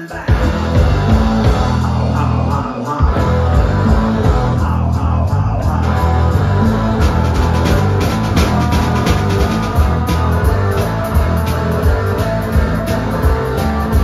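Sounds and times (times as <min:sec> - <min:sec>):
drum kit steady beat: 0:00.0 - 0:14.0
electric bass guitar: 0:00.0 - 0:14.0
electric guitar: 0:00.0 - 0:14.0.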